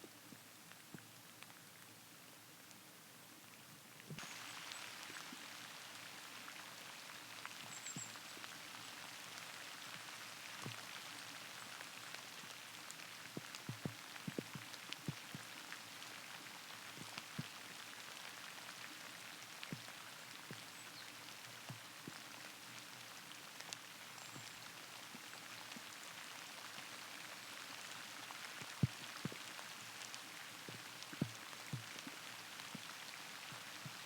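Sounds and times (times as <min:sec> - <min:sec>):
light rain hiss: 0:00.0 - 0:34.0
rain drips and ticks: 0:00.0 - 0:34.0.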